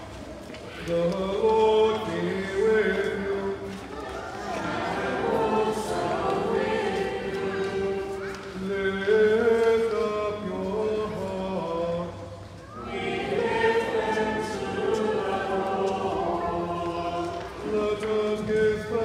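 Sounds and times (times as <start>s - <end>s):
choir singing long notes: 0.8s - 19.0s.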